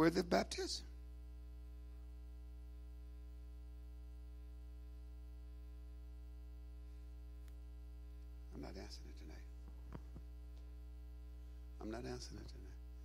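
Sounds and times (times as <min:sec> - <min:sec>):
electrical mains hum: 0:00.0 - 0:13.0
faint electrical buzz: 0:00.0 - 0:13.0.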